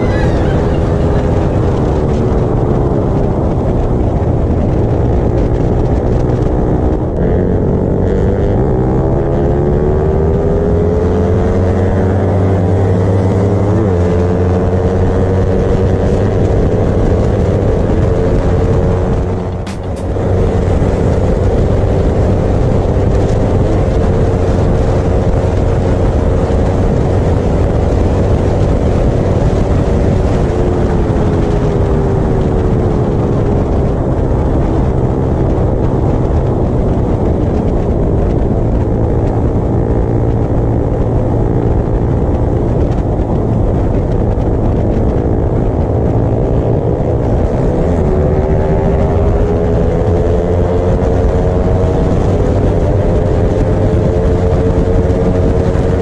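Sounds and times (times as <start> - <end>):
motorcycle engine running hard: 0.0 - 56.0
wind rush: 0.0 - 56.0.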